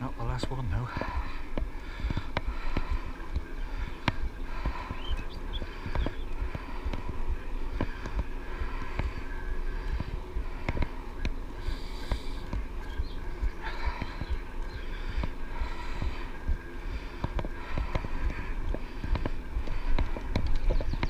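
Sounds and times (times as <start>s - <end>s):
bike knocking and rattling: 0.0s - 21.0s.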